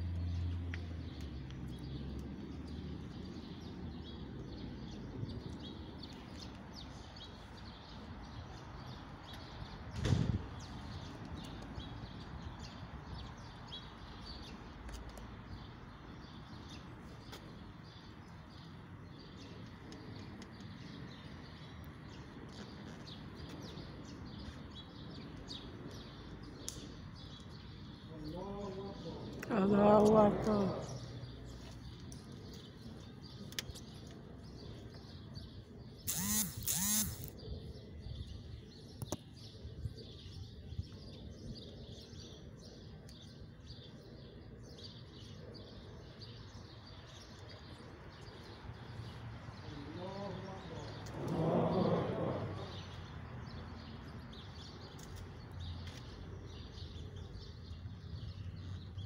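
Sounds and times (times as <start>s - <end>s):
faint birds chirping: 10.5s - 59.0s.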